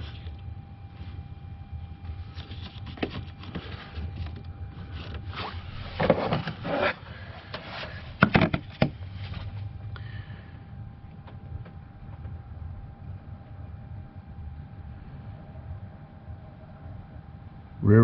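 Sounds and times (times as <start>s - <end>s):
steady low rumble: 0.0s - 3.0s, 3.8s - 18.0s.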